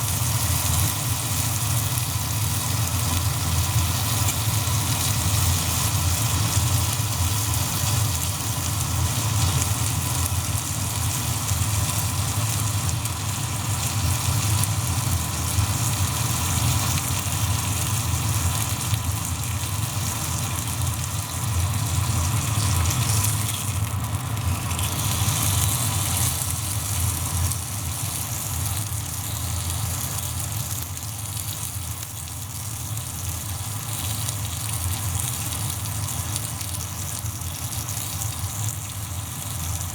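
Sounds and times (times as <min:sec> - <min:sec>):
meat sizzling over fire: 0:00.0 - 0:39.9.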